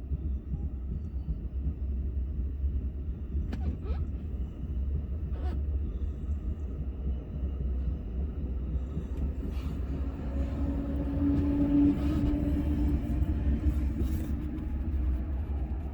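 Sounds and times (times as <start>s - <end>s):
train rumbling: 0.0s - 15.9s.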